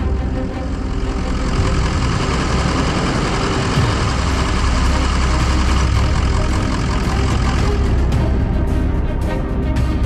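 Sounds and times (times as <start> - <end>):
excavator diesel engine rumbling: 0.0 - 10.0.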